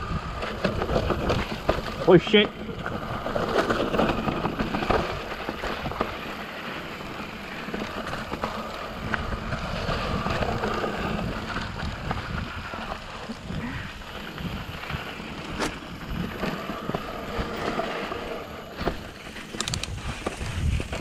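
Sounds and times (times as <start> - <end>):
bike tyres rolling over dirt: 0.0 - 21.0
wind rushing over microphone: 0.0 - 21.0
bike knocks and rattles: 0.4 - 21.0.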